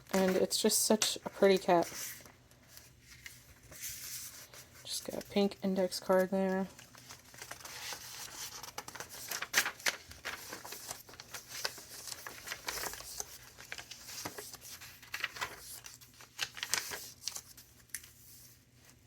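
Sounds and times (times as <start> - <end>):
paper pages rustling: 0.0 - 19.0.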